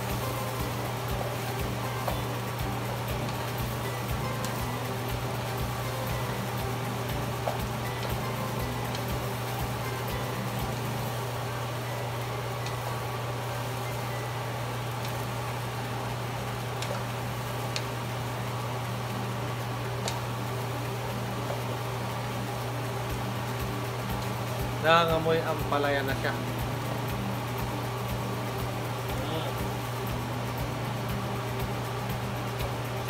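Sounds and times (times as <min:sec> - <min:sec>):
food sizzling in a frying pan: 0:00.0 - 0:33.0
steady low hum: 0:00.0 - 0:33.0.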